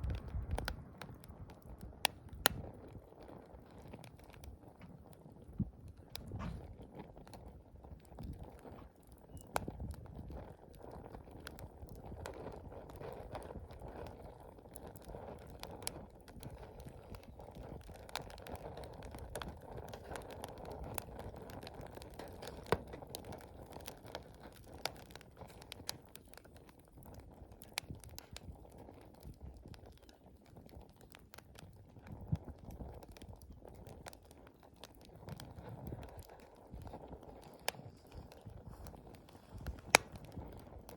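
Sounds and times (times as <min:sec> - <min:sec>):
burning wood crackling and popping: 0:00.0 - 0:40.9
campfire flame rushing: 0:00.0 - 0:40.9.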